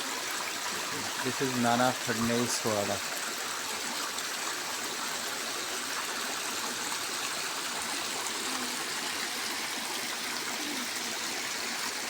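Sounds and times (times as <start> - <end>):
river water gushing: 0.0 - 12.0.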